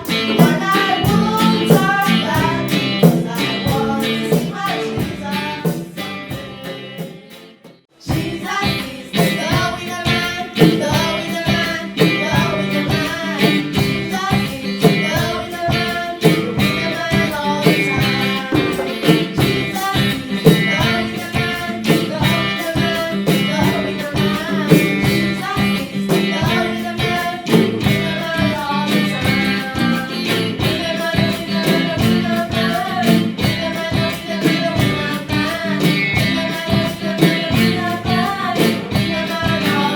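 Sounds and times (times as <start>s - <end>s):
guitar: 0.0s - 39.9s
person singing: 0.0s - 39.9s.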